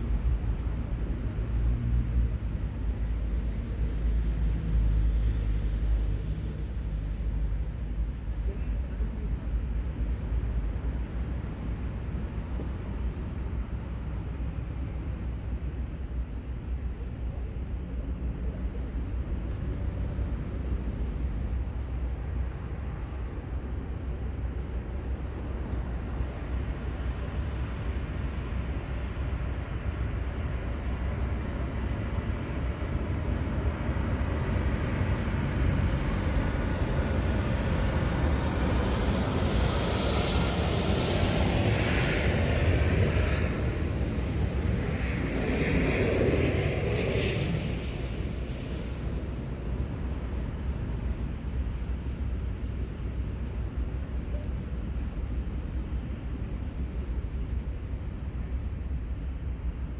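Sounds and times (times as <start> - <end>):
airplane engine: 0.0 - 59.9
low outdoor rumble: 0.0 - 59.9.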